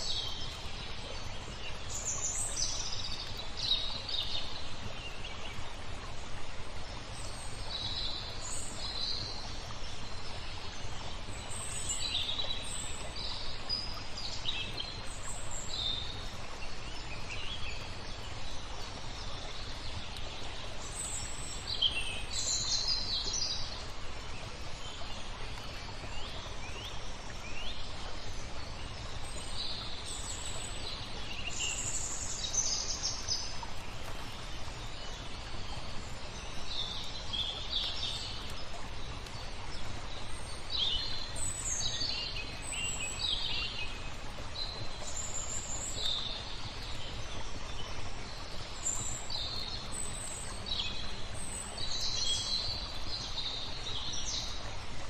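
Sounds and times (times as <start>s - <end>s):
background noise: 0.0s - 55.0s.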